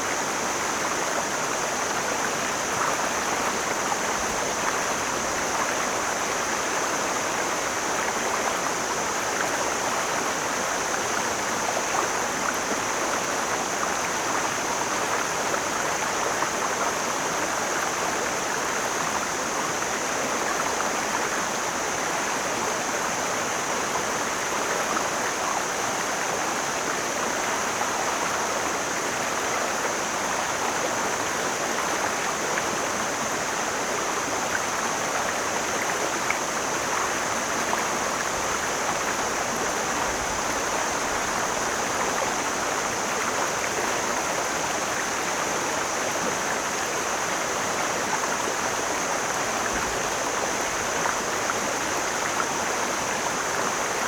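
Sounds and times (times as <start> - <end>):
stream water babbling: 0.0 - 54.0.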